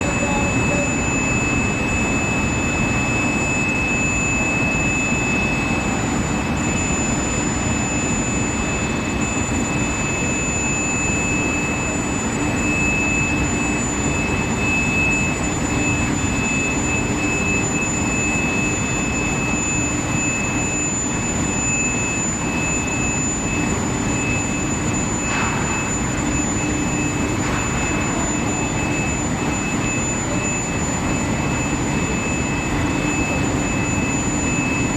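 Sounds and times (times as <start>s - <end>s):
high-pitched whines: 0.0s - 34.9s
industrial hum and rumble: 0.0s - 34.9s.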